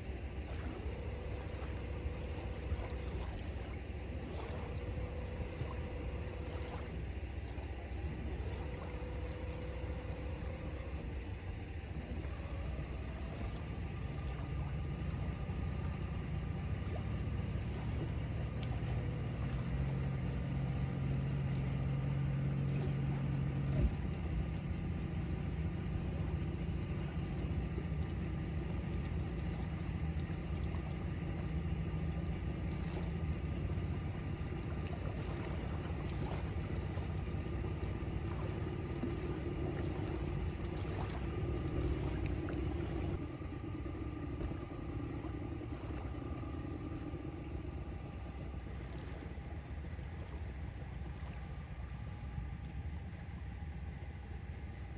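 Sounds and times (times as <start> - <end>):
boat engine idling: 0.0 - 54.9.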